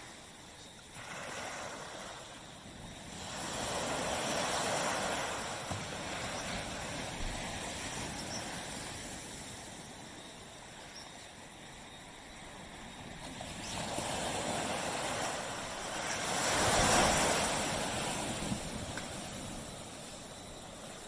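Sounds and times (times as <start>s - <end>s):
small waves washing onto beach: 0.0s - 21.0s.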